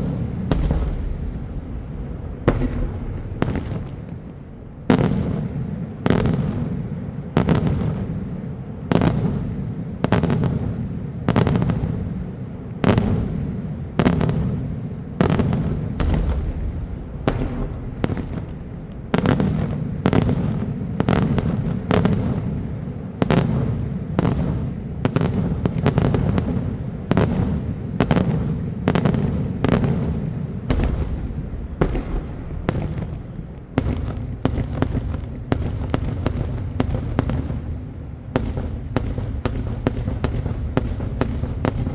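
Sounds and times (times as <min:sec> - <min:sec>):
fireworks bursts with rumbling echo: 0:00.0 - 0:41.9.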